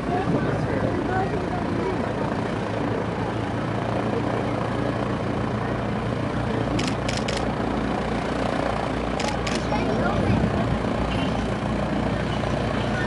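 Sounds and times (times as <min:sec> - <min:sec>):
propeller engine humming: 0:00.0 - 0:13.0.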